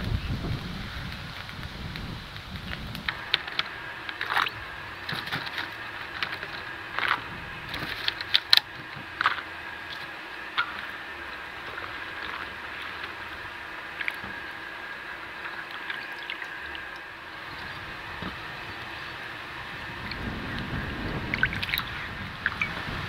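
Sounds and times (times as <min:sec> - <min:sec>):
water sloshing: 0:02.6 - 0:23.0.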